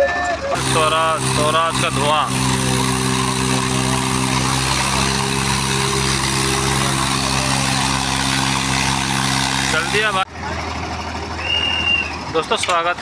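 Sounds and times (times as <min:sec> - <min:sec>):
tractor engines at full throttle: 0:00.0 - 0:13.0.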